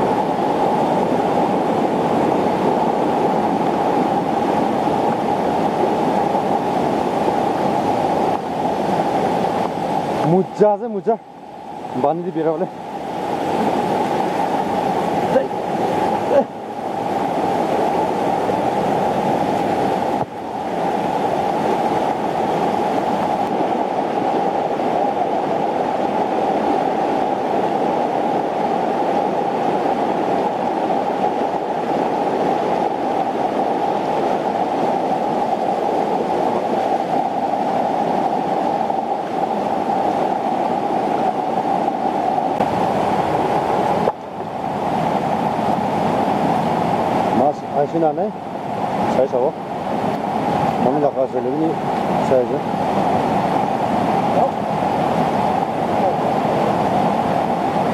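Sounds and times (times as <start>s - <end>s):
river rushing over rocks: 0.0s - 57.9s.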